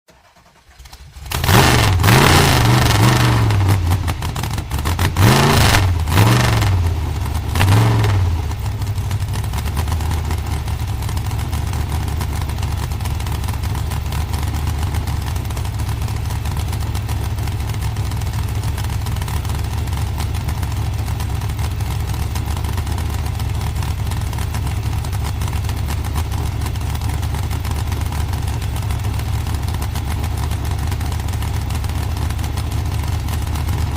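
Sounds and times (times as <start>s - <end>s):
dragster engine lumpy idle: 0.1s - 33.9s
dragster engine revving: 0.8s - 33.9s.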